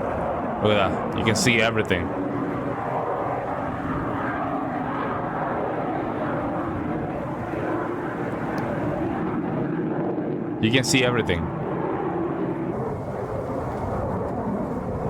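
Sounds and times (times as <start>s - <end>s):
fighter jet engines roaring: 0.0s - 15.0s.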